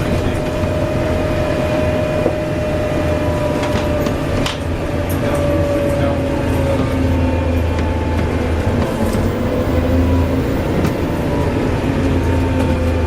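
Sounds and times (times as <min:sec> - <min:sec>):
bus engine drone: 0:00.0 - 0:13.0
transmission whine: 0:00.0 - 0:13.0.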